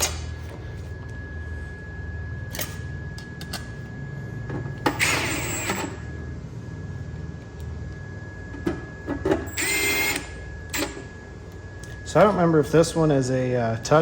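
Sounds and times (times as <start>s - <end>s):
high-pitched electrical whine: 0.0s - 14.0s
low hum: 0.0s - 14.0s.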